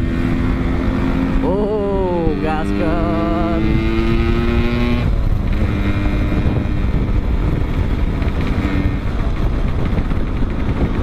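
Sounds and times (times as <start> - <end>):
motorcycle engine revving: 0.0 - 11.0
wind noise on microphone: 0.0 - 11.0.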